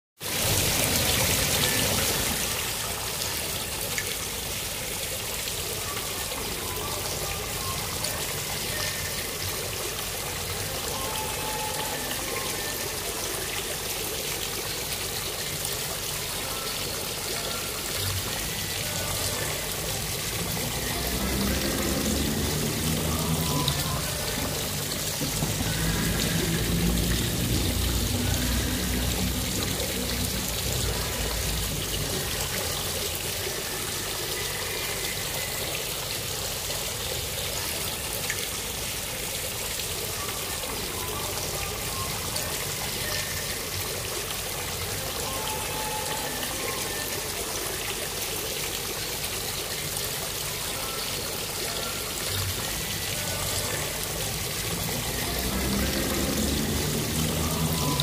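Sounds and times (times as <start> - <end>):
fountain water splashing: 0.2 - 58.0.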